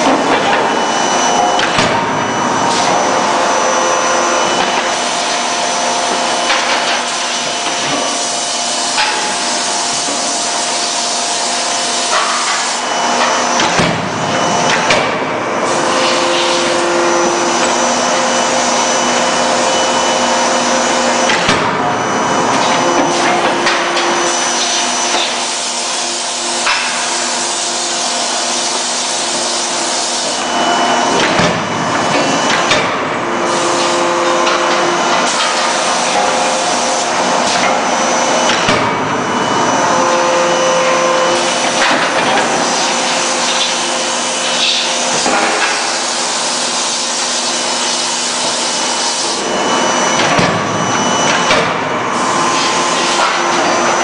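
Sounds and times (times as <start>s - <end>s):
forging hammer machine noise: 0.0s - 54.0s
machine whining tones: 0.0s - 54.0s.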